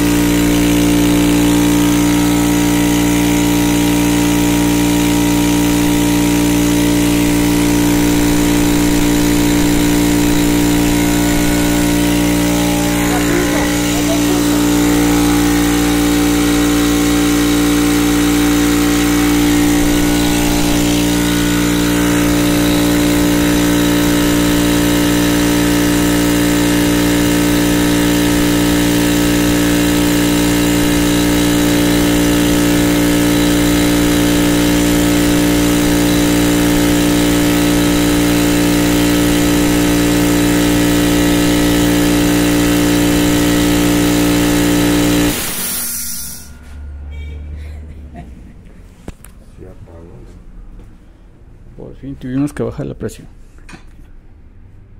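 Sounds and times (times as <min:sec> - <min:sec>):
air compressor running: 0:00.0 - 0:48.0.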